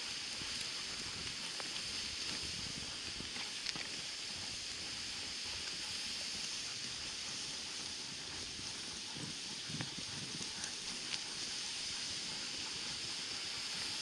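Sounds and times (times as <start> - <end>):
sled runners hissing on snow: 0.0 - 14.0.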